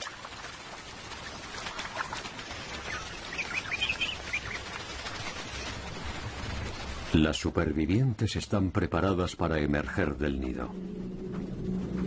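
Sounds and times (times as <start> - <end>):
low outdoor background: 0.0 - 12.0.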